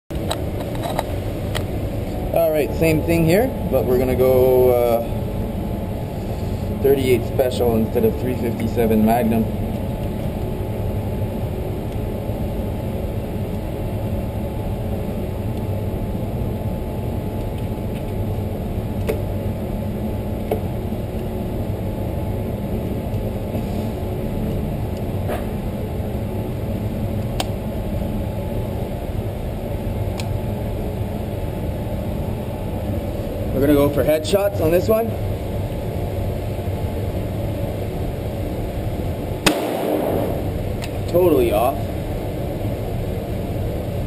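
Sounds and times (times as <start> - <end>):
low ventilation hum: 0.1 - 44.0.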